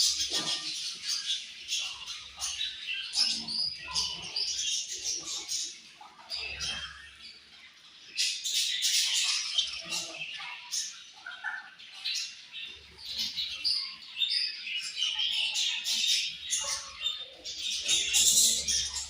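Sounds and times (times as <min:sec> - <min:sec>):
budgerigars chirping and warbling: 0:00.0 - 0:19.0.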